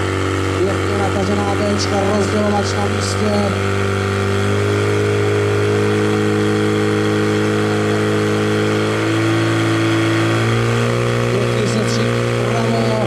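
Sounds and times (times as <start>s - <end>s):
pump engine running: 0.0s - 13.0s.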